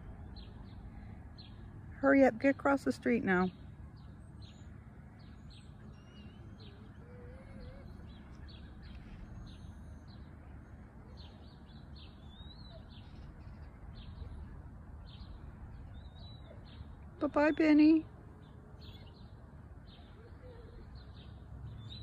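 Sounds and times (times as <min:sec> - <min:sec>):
low outdoor background hum: 0:00.0 - 0:22.0
small birds chirping: 0:00.0 - 0:22.0.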